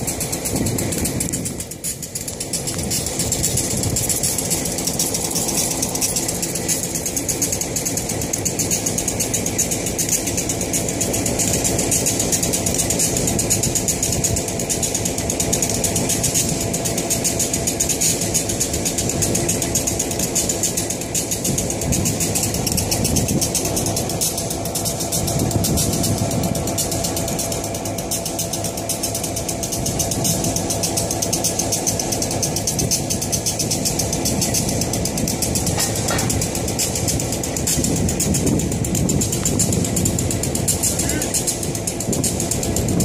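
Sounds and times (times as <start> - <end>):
turntable machinery rattling: 0.0 - 43.0.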